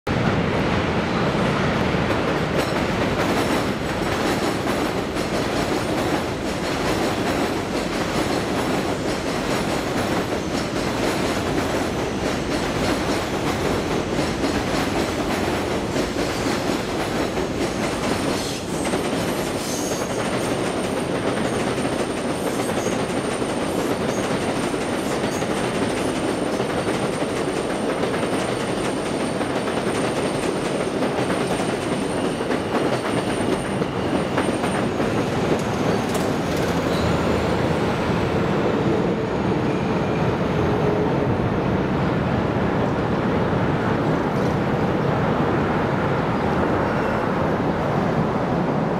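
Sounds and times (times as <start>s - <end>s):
train wheels on track: 0.1s - 48.9s.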